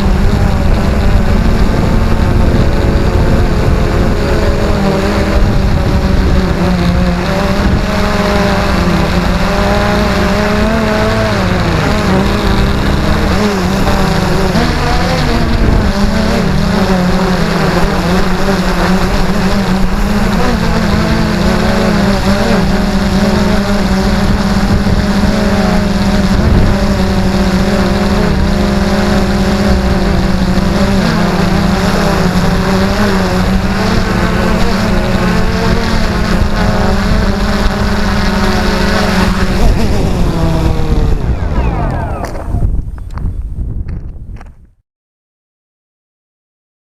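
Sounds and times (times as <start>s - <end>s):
drone propellers droning: 0.0s - 44.1s.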